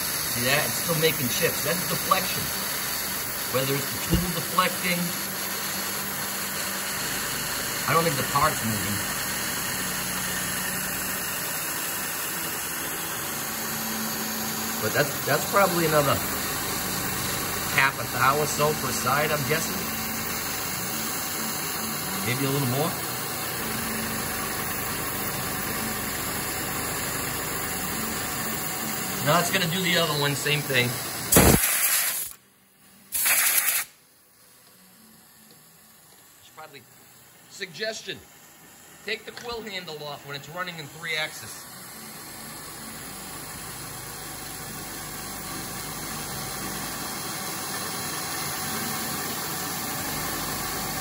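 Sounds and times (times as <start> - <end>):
coolant nozzle hissing: 0.0 - 32.4, 33.1 - 34.0, 37.6 - 51.0
milling machine cutting steel: 0.0 - 32.4, 36.3 - 51.0.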